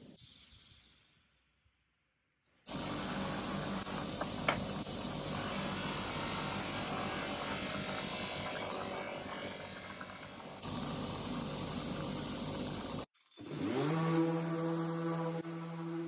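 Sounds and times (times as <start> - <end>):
bench buffer motor running: 2.7 - 16.0.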